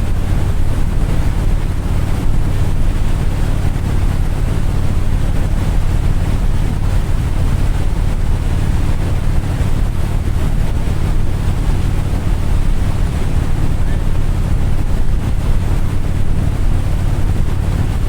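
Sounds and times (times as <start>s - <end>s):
low engine rumble: 0.0s - 18.0s
wind noise on microphone: 0.0s - 18.0s.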